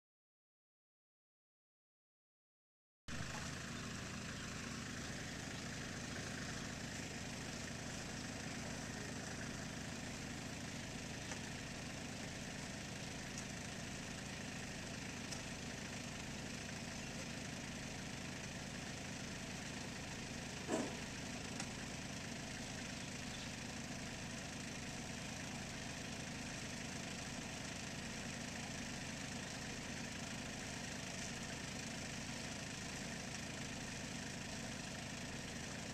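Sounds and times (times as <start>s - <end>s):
tractor engine idling: 3.1s - 35.9s.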